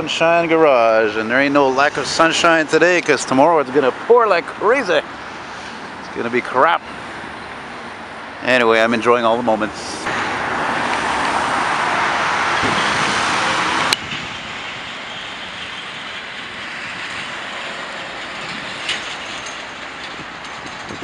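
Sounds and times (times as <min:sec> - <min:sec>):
car passing close: 0:00.0 - 0:21.0
street traffic: 0:00.0 - 0:21.0.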